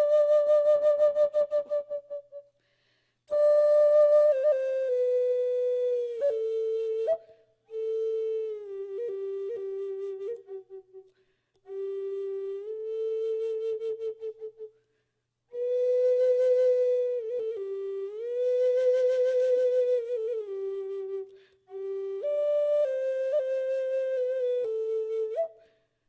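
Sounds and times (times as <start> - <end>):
flute slow melody: 0.0 - 2.4, 3.3 - 14.7, 15.5 - 25.8.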